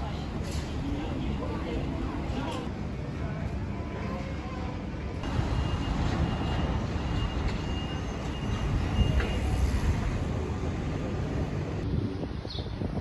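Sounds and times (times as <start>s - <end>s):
train rumbling: 0.0s - 11.8s.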